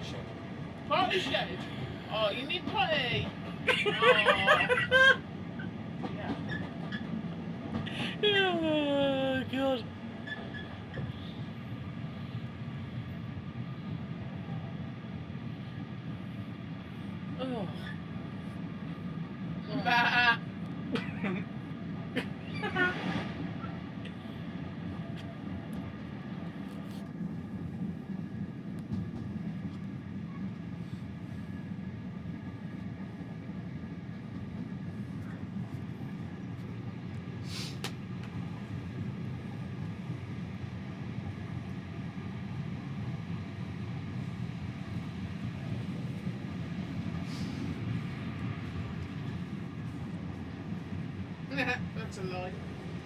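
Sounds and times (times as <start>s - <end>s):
train rumbling on track: 0.0s - 53.0s.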